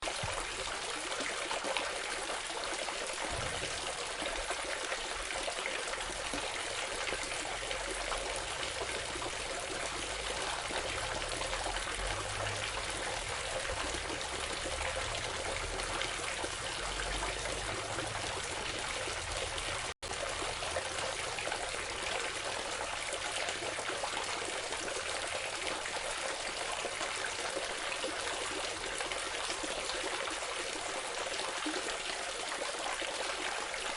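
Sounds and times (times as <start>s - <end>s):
water fountain trickling: 0.0s - 33.9s.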